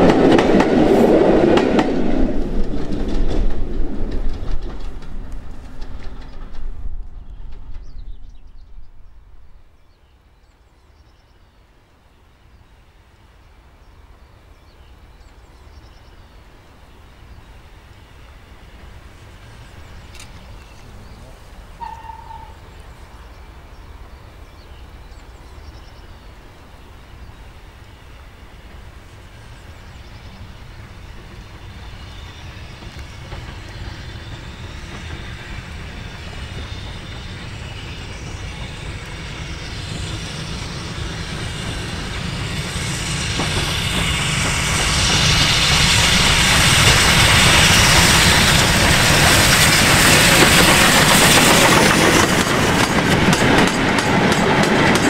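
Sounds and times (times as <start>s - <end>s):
steam locomotive approaching: 0.0s - 55.0s.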